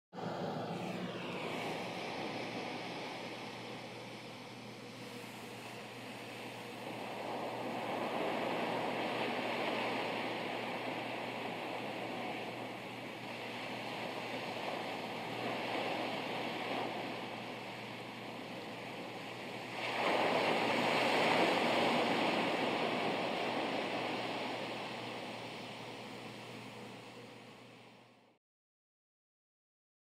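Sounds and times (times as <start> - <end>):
ocean surf washing onto beach: 0.2 - 26.7.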